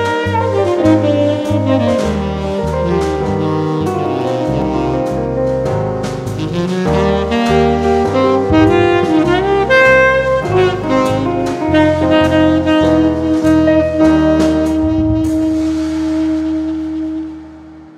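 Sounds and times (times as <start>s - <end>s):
bass and drums: 0.0s - 17.9s
jazz saxophone melody: 0.0s - 17.9s.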